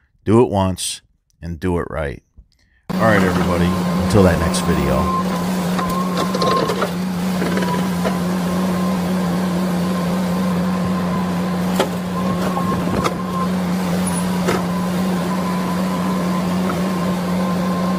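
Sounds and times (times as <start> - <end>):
excavator engine drone: 2.9 - 17.9
high hydraulic whine: 2.9 - 17.9.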